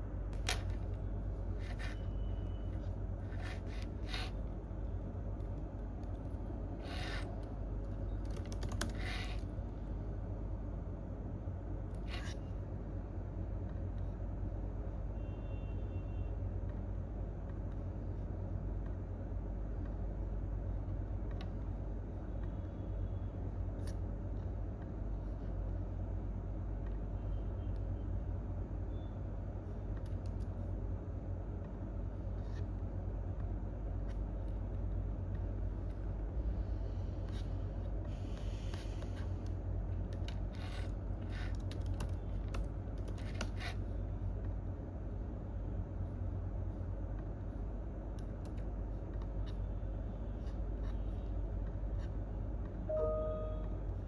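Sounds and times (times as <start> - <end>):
office room hum: 0.0 - 54.0.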